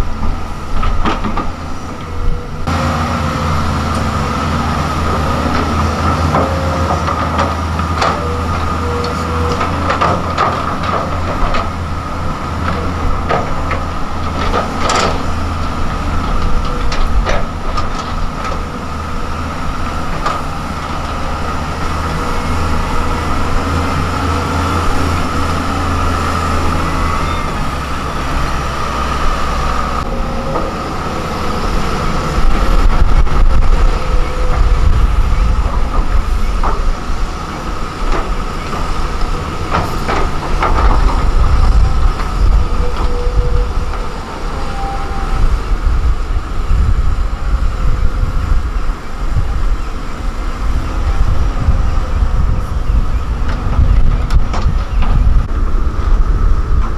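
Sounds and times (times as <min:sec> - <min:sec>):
diesel engine rumble: 0:00.0 - 0:56.9.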